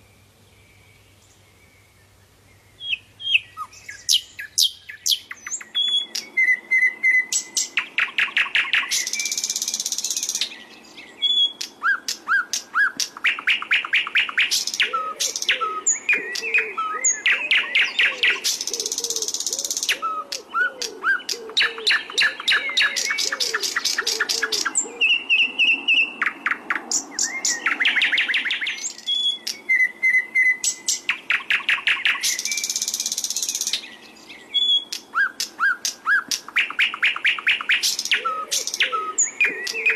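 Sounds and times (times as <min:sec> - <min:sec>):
flycatcher singing trills: 0:02.6 - 0:39.9.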